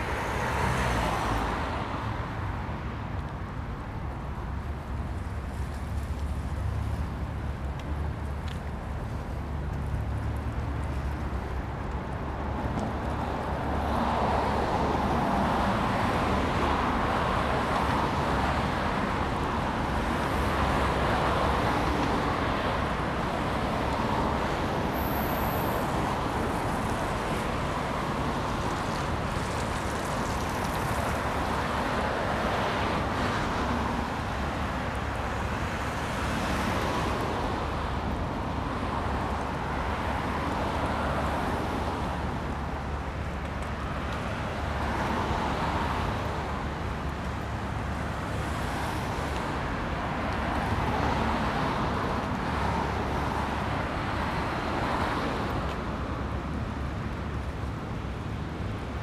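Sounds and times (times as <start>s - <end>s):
low traffic rumble: 0.0s - 59.0s.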